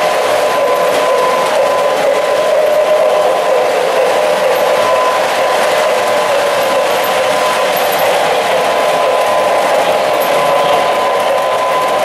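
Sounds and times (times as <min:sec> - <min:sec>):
model train motors whirring: 0:00.0 - 0:12.0
thin high whine: 0:00.0 - 0:12.0
wheels on rails: 0:00.0 - 0:12.0.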